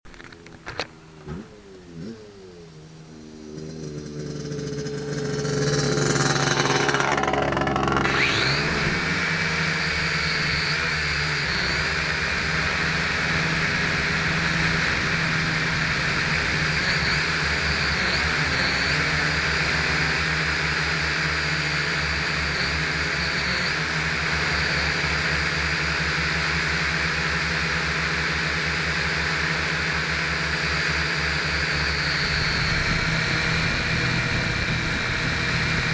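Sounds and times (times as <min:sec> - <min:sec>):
drone propellers whining: 0:00.1 - 0:35.9.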